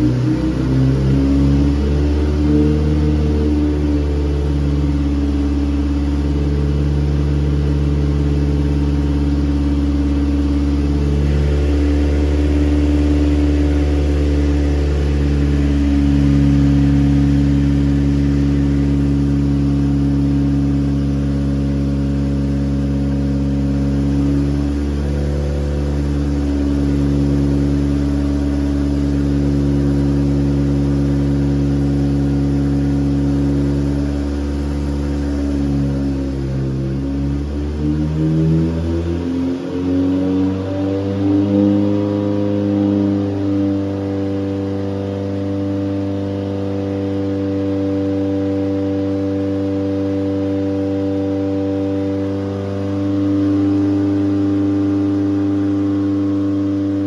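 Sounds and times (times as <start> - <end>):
sustained low music chords: 0.0 - 57.0.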